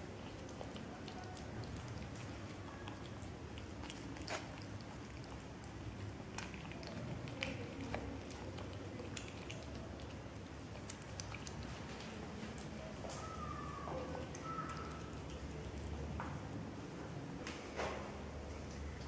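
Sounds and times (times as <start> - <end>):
cat chewing wet food: 0.0 - 17.4.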